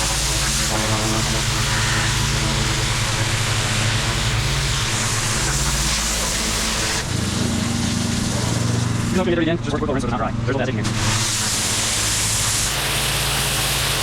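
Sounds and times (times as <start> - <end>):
high-pressure water spray hissing: 0.0 - 9.6, 10.8 - 14.0
pressure washer motor humming: 0.0 - 14.0.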